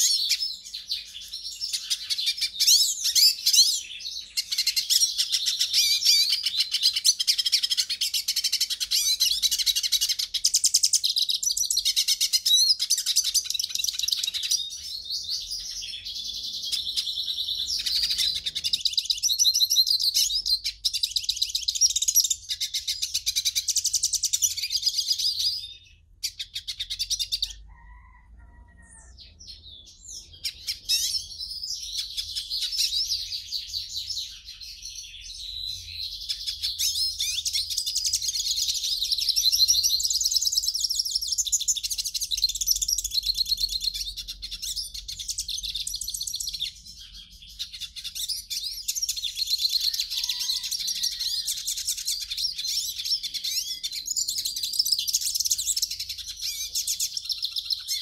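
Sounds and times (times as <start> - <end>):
finch twittering song: 0.0 - 28.2, 28.8 - 58.0.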